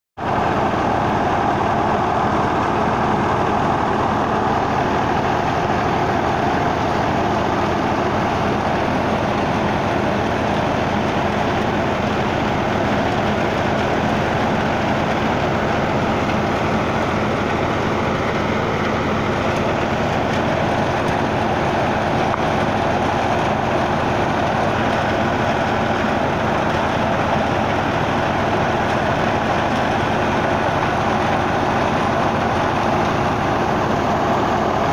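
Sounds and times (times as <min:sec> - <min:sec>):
diesel tractor running under load: 0:00.2 - 0:34.9
thresher drum running: 0:00.2 - 0:34.9.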